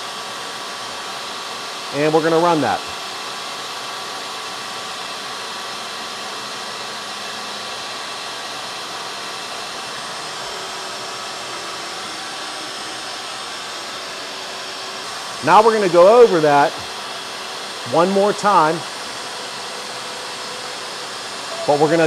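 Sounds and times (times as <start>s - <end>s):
suction motor whine: 0.0s - 22.0s.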